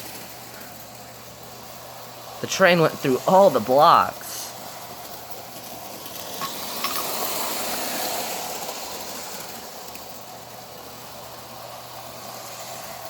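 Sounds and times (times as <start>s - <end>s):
toy electric train running: 0.0s - 13.0s.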